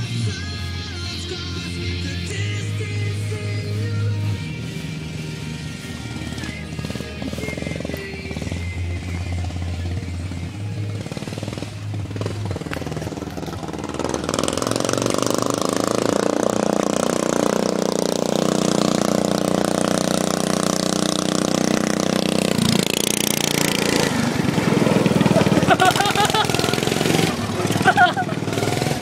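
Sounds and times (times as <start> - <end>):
racing lawnmower engine: 0.0 - 29.0.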